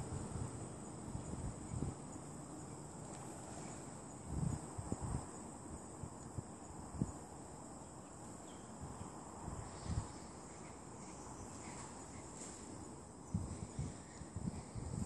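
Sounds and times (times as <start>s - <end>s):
high-pitched insect chorus: 0.0s - 15.0s
low outdoor hiss: 0.0s - 15.0s.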